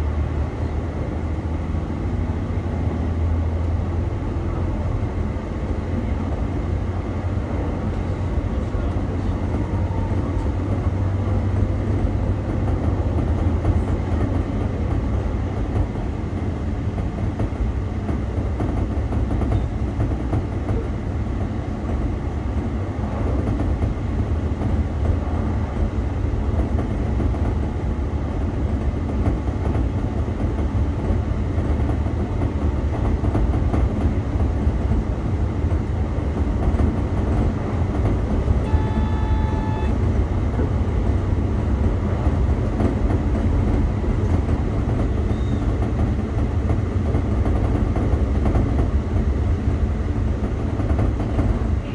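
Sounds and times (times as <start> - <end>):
diesel engine drone: 0.0 - 20.0, 20.7 - 51.9.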